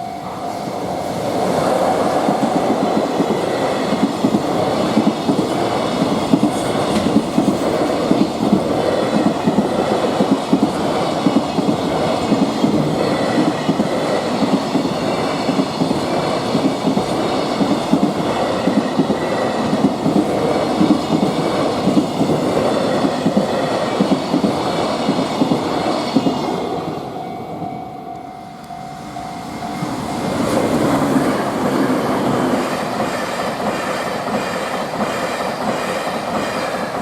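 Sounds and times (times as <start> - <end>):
train wheels clattering over rails: 0.7 - 27.1, 29.8 - 37.0.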